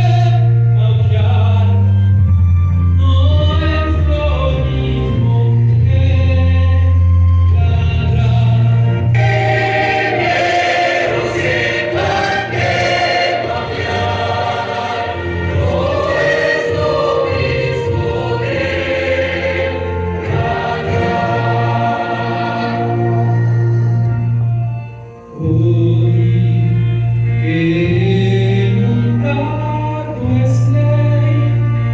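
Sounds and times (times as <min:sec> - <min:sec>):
choir singing: 0:03.2 - 0:31.9.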